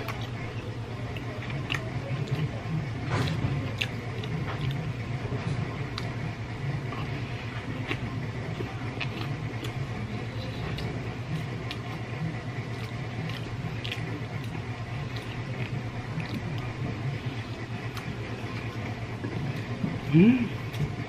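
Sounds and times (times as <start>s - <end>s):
low hum: 0.0s - 21.0s
person chewing with wet clicks: 0.0s - 21.0s.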